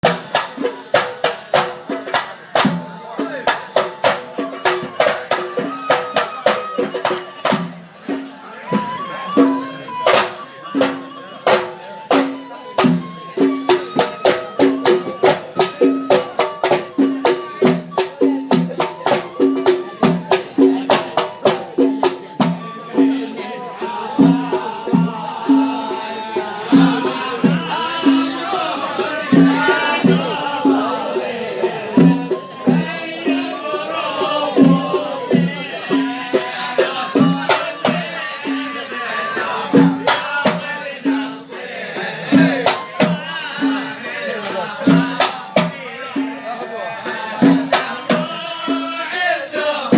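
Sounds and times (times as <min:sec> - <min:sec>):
band melody: 0:00.0 - 0:49.9
hand drums beating: 0:00.0 - 0:49.9.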